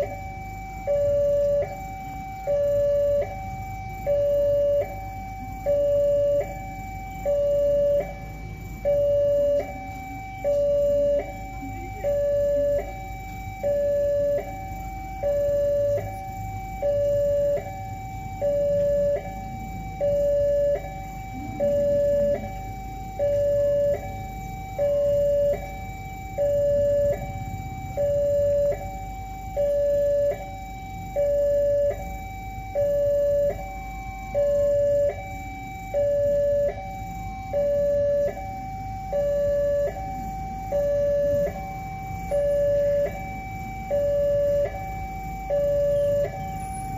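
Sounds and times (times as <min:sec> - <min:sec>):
level crossing alarm two-tone: 0:00.0 - 0:46.9.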